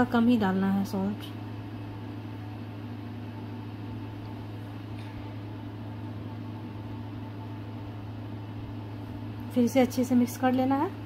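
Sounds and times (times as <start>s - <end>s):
kitchen fan humming: 0.0s - 11.0s.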